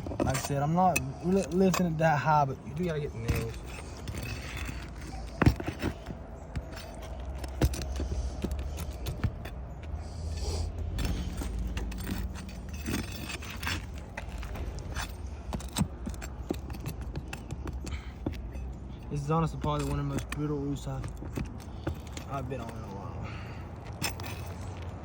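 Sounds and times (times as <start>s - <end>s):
low steady rumble: 0.0s - 25.0s
nails clinking and scraping: 0.0s - 25.0s.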